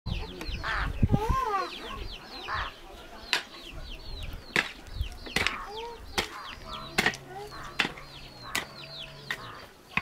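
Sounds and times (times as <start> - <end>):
chickens chirping: 0.1 - 10.0.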